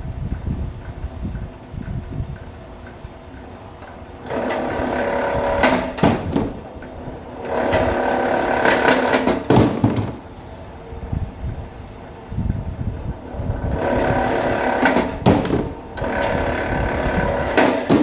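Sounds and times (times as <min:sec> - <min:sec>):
wire stripping machine working: 0:00.1 - 0:18.0.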